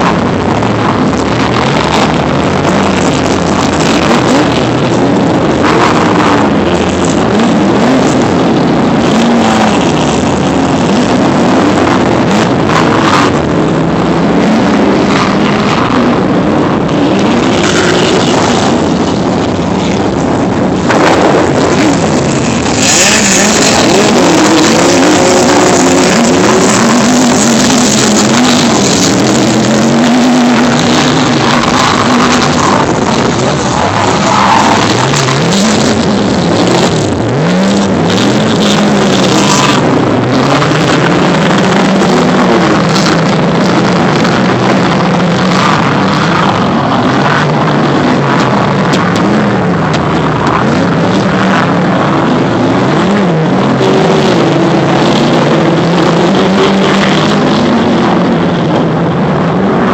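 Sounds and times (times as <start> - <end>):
steady rushing noise: 0.0 - 59.9
truck engine revving: 0.0 - 59.9.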